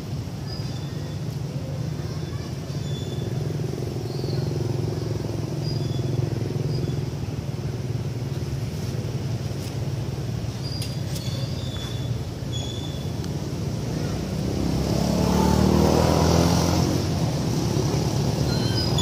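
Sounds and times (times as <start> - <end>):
engine running with low rumble: 0.0 - 19.0.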